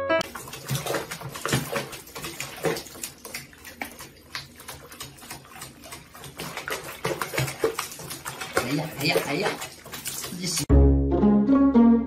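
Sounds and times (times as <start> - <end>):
water splashing in a basin: 0.2 - 10.7.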